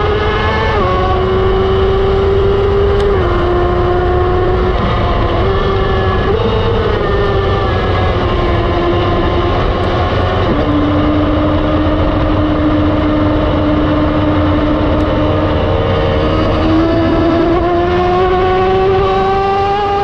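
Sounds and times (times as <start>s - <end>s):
motorcycle engine at speed: 0.0s - 20.0s
wind rush: 0.0s - 20.0s.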